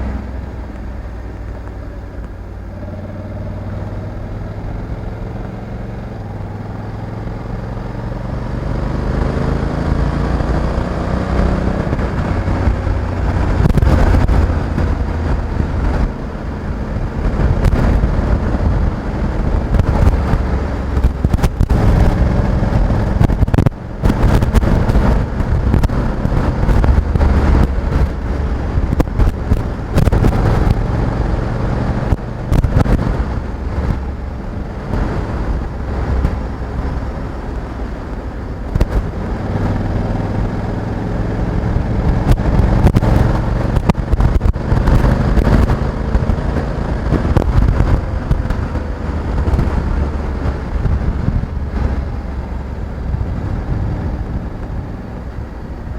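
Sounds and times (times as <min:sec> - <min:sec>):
motorcycle engine running: 0:00.0 - 0:55.9
sharp exhaust crackles: 0:00.0 - 0:55.9.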